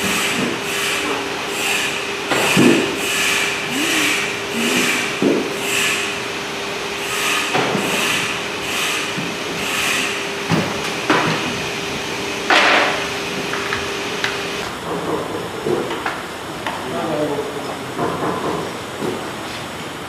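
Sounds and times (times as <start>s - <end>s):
workshop machine hum: 0.0s - 20.0s.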